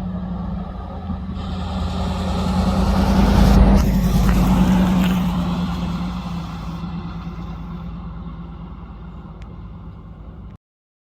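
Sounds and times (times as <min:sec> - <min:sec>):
pickup truck engine running: 0:00.0 - 0:10.6.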